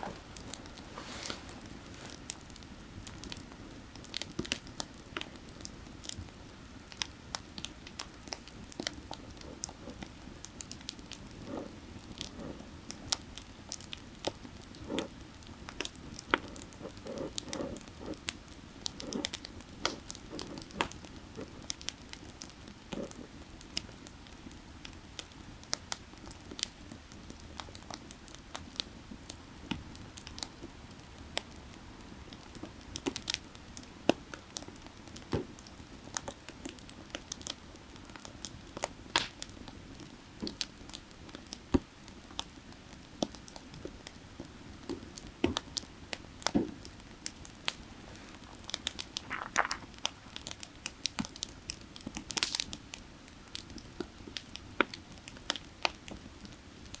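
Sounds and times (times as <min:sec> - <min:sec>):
firewood crackling and popping: 0:00.0 - 0:57.0.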